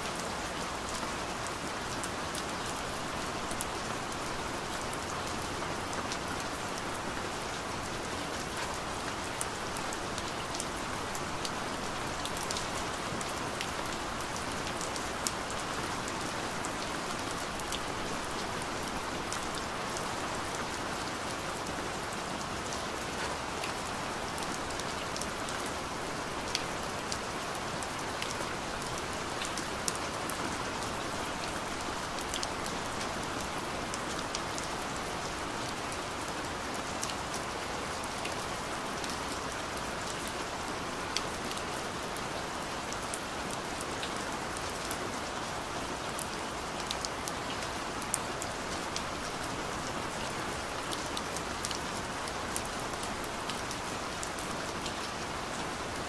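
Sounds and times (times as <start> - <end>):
rain on hard surfaces: 0.0 - 56.0.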